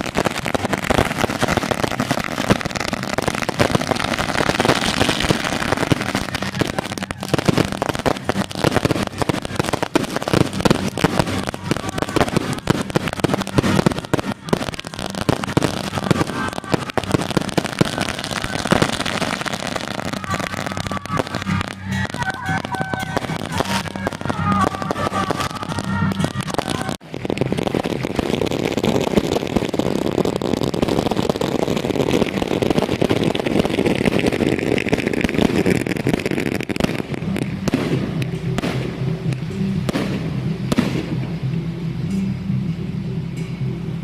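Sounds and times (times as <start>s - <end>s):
firecrackers crackling: 0.0s - 42.3s.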